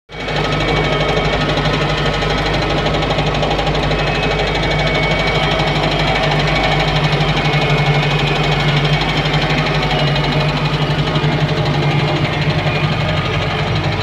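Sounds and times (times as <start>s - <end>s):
tractor diesel engine clattering: 0.1s - 14.0s.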